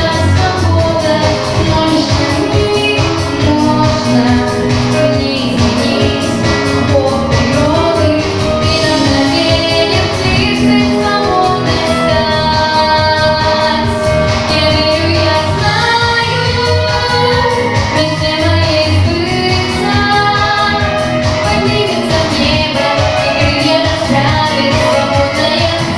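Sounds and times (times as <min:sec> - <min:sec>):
girl singing: 0:00.0 - 0:25.9
pop backing track with beat: 0:00.0 - 0:25.9.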